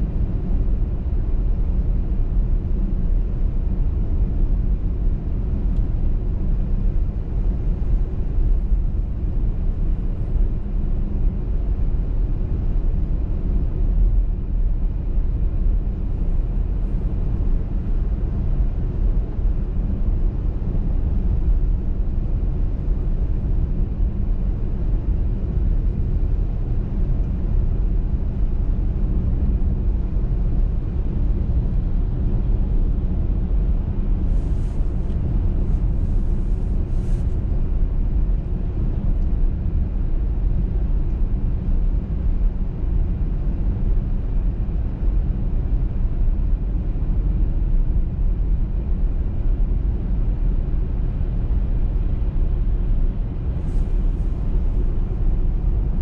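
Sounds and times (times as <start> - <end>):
car road and engine noise: 0.0 - 50.5, 51.1 - 56.0.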